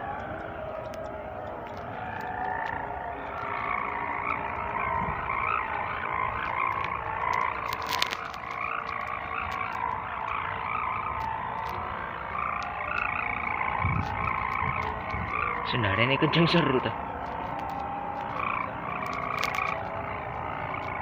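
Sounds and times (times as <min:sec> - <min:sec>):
kite hummer bow droning: 0:00.0 - 0:21.0
wind rumbling on microphone: 0:00.0 - 0:21.0.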